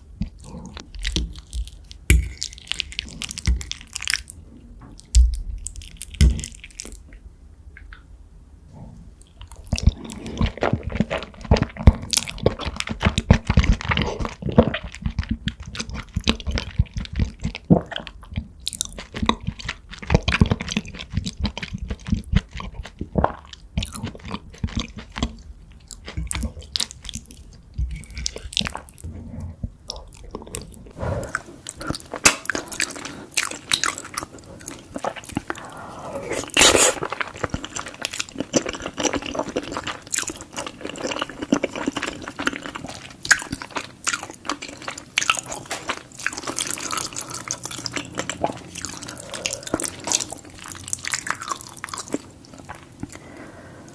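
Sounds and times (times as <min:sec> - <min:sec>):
chewing and biting food: 0:09.4 - 0:29.1, 0:29.8 - 0:53.4.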